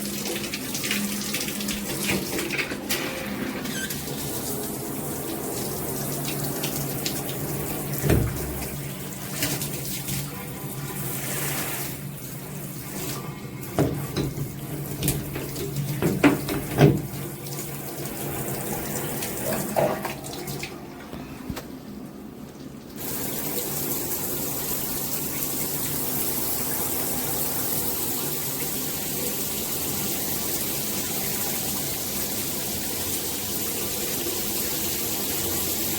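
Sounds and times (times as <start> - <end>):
shower water running: 0.0 - 35.9.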